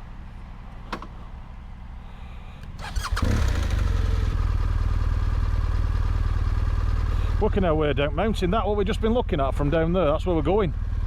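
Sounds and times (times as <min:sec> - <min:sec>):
motorcycle engine starting and idling: 0:00.0 - 0:01.6, 0:02.3 - 0:11.0.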